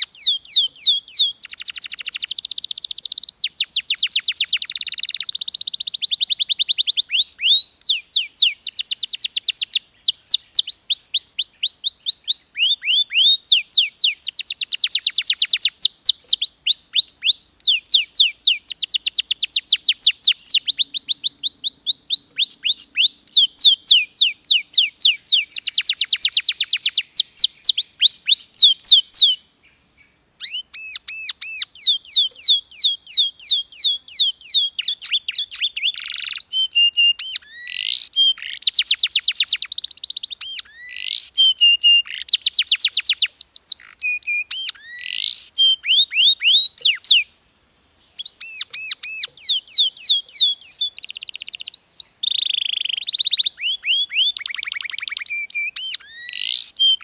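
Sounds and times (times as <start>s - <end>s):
canary singing: 0.0s - 29.4s, 30.4s - 47.3s, 48.1s - 57.0s.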